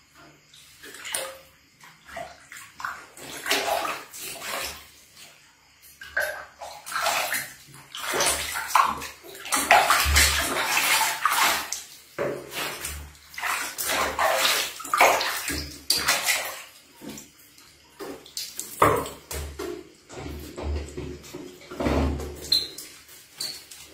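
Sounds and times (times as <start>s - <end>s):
water splashing in plastic basin: 0.0s - 23.9s.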